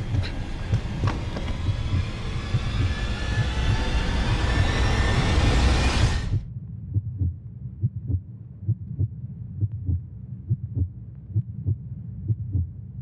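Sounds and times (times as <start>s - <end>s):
heartbeat thumps: 0.0s - 4.8s, 6.3s - 12.8s
steady low hum: 0.0s - 13.0s.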